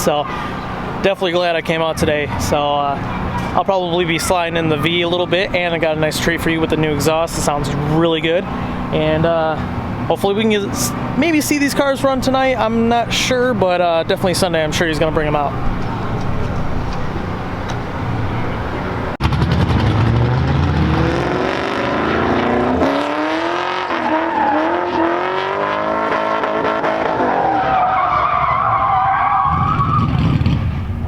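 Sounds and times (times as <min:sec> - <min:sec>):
car engine revving: 0:00.2 - 0:31.0.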